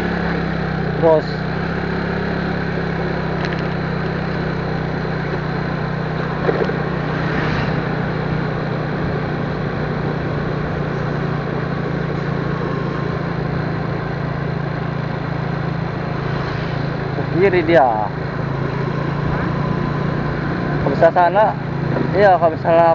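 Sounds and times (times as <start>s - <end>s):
road and wind noise: 0.0s - 22.9s
vehicle engine drone: 0.0s - 22.9s.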